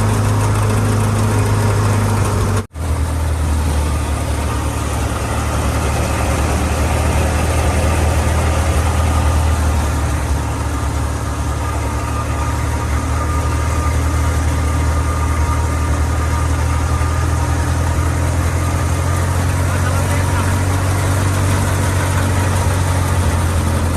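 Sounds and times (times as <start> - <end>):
thresher mechanical rush: 0.0 - 23.9
tractor engine droning: 0.0 - 23.9.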